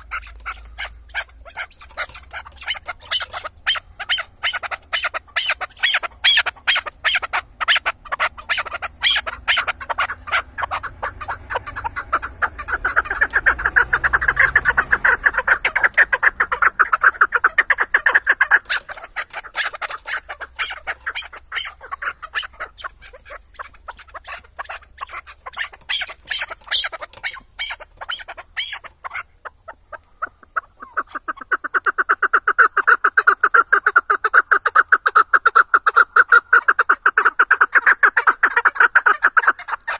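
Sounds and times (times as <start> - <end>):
partridge clucking calls: 0.0 - 39.9.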